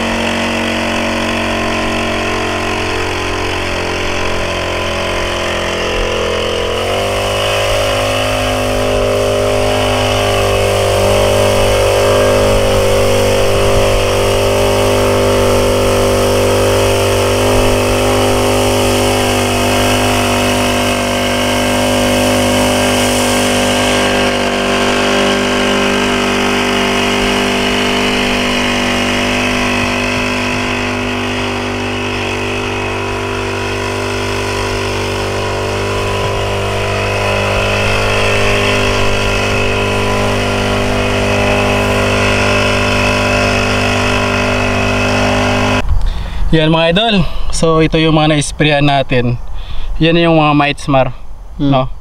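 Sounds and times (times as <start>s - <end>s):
small sprayer engine running: 0.0s - 48.4s.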